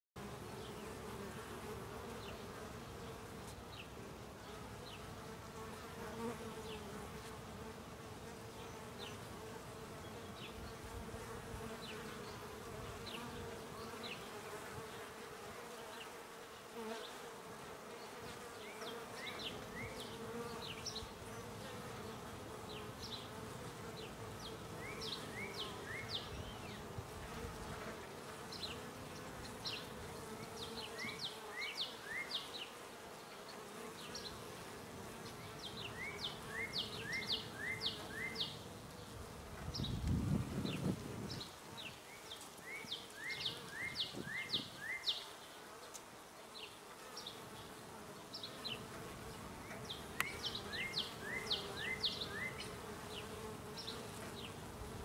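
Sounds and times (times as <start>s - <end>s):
honeybees humming: 0.2s - 55.0s.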